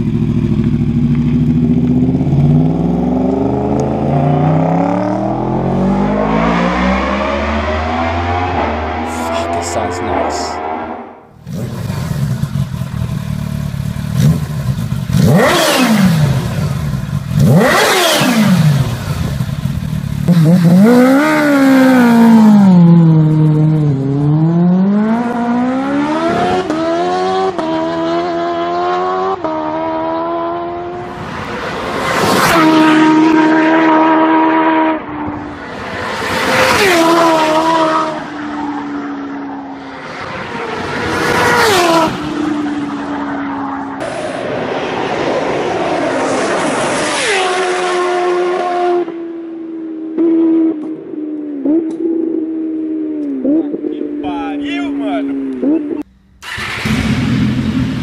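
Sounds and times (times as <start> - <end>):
motorcycle revving up and down: 0.0 - 39.1, 39.8 - 43.3, 45.5 - 58.0
motorcycles passing at high revs: 0.0 - 58.0.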